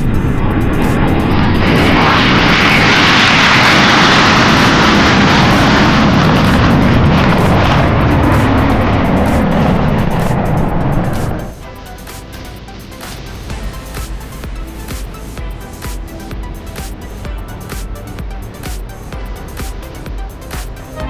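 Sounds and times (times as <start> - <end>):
jet engine running: 0.0 - 21.0.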